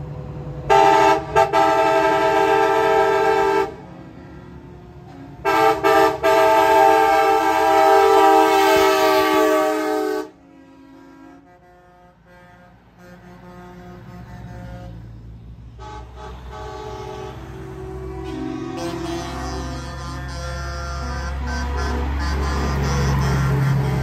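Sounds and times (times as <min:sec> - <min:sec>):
truck engines and traffic rumble: 0:00.0 - 0:24.0
truck air horn blasts: 0:00.7 - 0:24.0.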